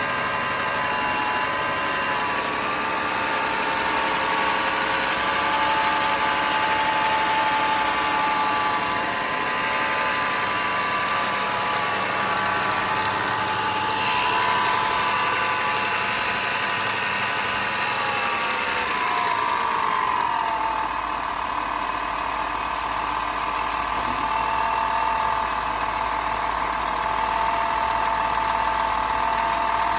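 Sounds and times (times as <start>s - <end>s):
car engine running: 0.0s - 29.9s
turbo whine: 0.0s - 29.9s.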